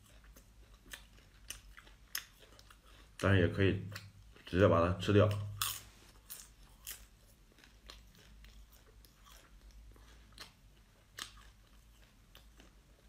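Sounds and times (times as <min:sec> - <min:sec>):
faint close-mouthed chewing: 0:00.0 - 0:13.0.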